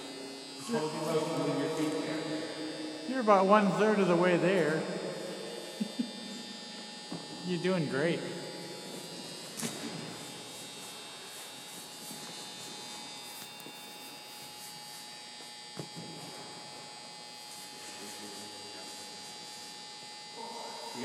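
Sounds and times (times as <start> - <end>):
electrical hum with whine: 0.0 - 21.0.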